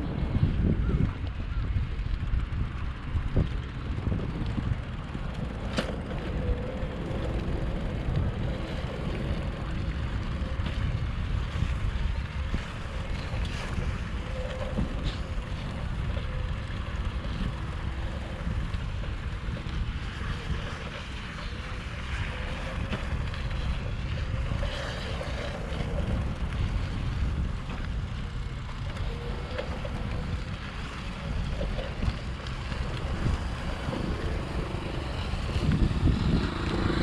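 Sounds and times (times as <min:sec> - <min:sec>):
faint wavering hum: 0:00.0 - 0:37.0
wind buffeting microphone: 0:00.0 - 0:37.0.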